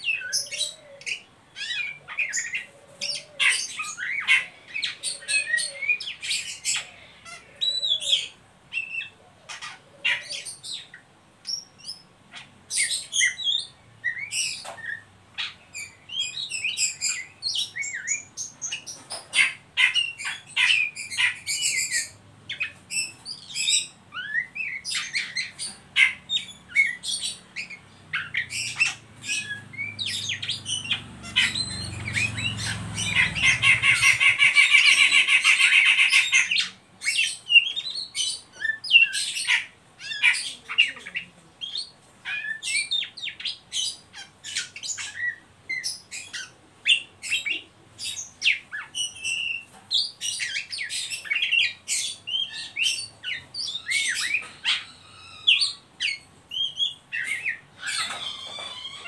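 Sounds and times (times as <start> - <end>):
bird singing calls and whistles: 0.0 - 59.0.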